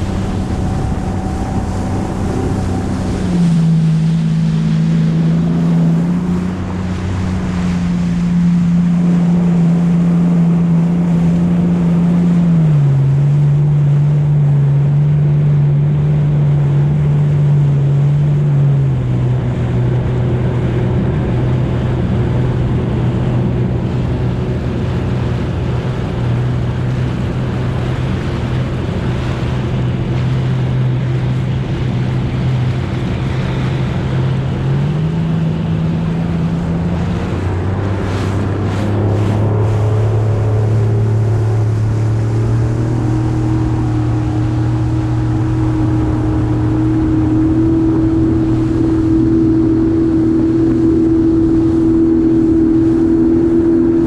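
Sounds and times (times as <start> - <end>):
jet ski engine running: 0.0 - 54.0
rushing water: 0.0 - 54.0
wind noise on microphone: 0.0 - 54.0.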